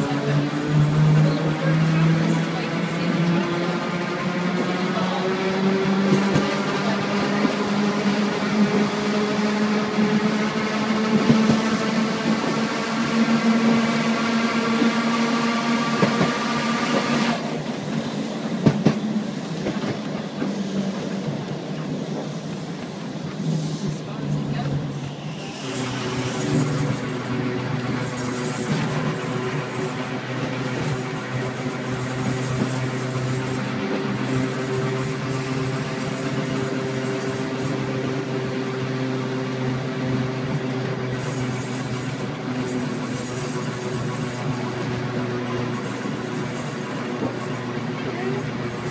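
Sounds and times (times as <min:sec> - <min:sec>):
tram motor whine: 0:00.0 - 0:48.9
wheels rumbling on track: 0:00.0 - 0:48.9.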